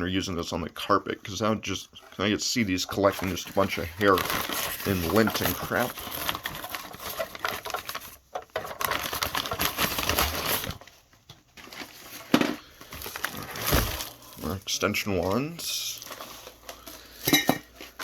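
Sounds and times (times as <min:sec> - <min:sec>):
packaging rustling: 0:02.8 - 0:18.0.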